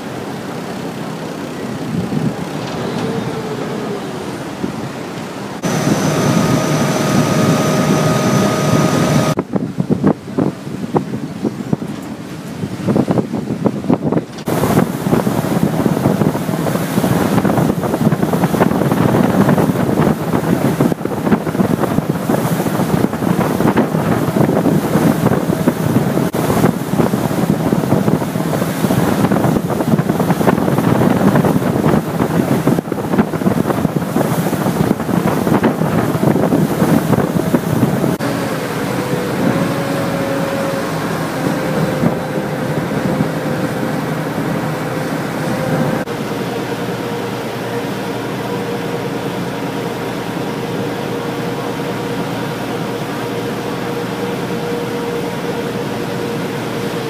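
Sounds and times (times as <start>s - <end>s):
boat engine hum: 0.0s - 57.0s
water rushing along hull: 0.0s - 57.0s
wind buffeting microphone: 0.2s - 57.0s.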